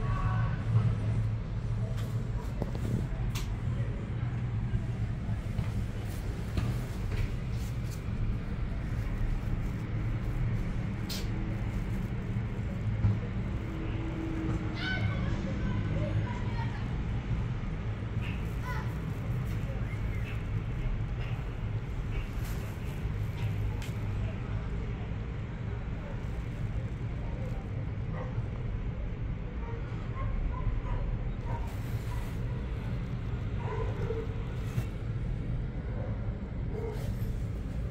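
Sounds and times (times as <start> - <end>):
gondola cabin rumble: 0.0 - 37.9.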